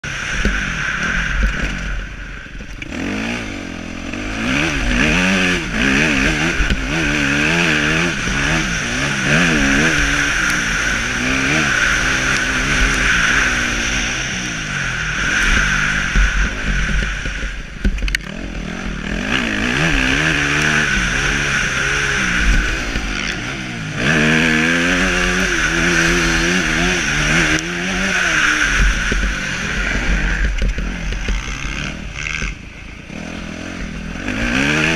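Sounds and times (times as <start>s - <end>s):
motocross motorcycle engines revving: 0.0s - 34.9s.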